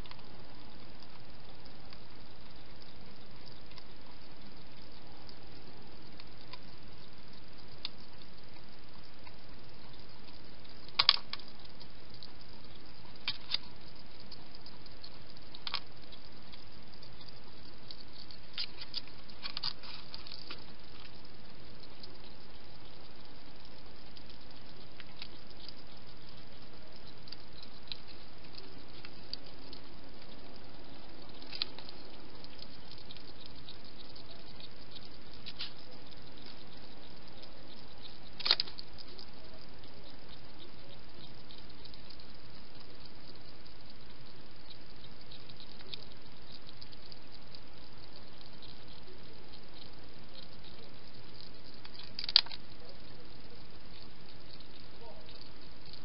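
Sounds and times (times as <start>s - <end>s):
hedgehog crunching food: 0.0s - 56.0s
steady hiss: 0.0s - 56.0s.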